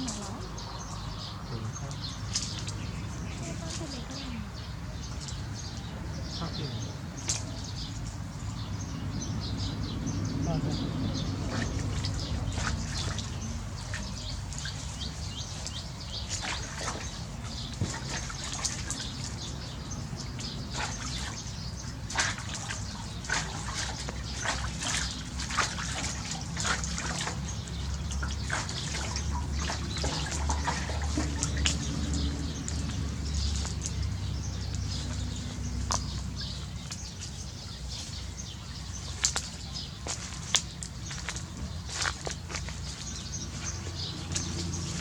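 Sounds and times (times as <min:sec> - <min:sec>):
water dripping and splashing: 0:00.0 - 0:45.0.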